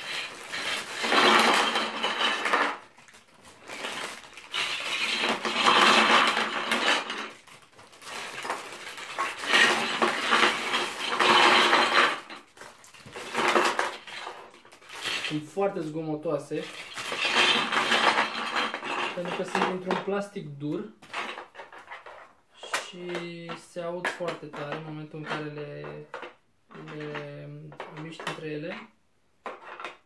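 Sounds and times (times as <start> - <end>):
plastic bricks clattering: 0.0 - 15.8, 16.6 - 30.0.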